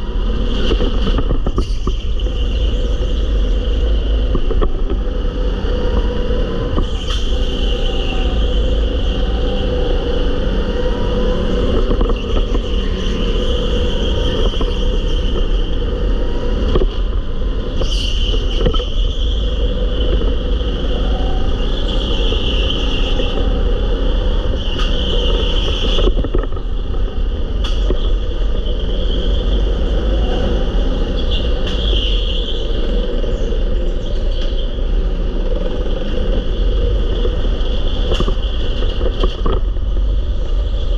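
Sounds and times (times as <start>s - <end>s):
go-kart engine drone: 0.0s - 40.9s.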